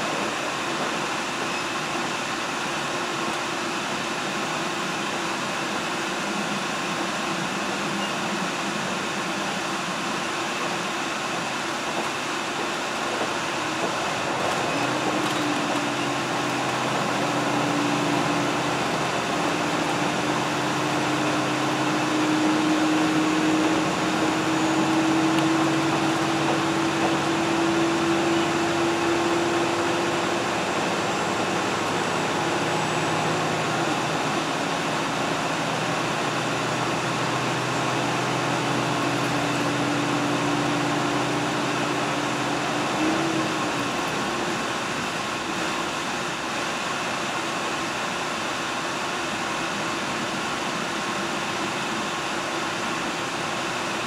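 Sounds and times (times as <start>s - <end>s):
diesel engine drone: 0.0s - 54.0s
train wheels rumbling and hissing: 0.0s - 54.0s.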